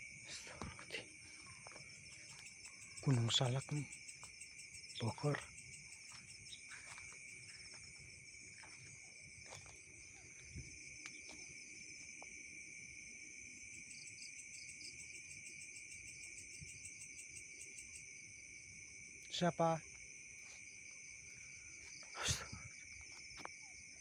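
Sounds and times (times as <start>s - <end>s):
crickets and insects trilling: 0.0s - 24.0s.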